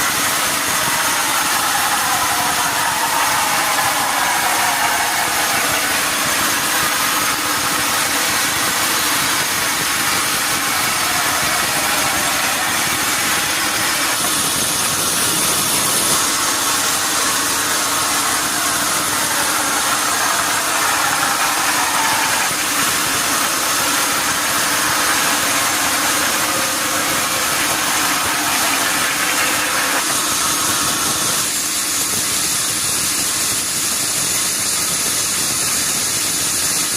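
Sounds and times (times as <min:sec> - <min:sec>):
sawmill machinery running: 0:00.0 - 0:36.9.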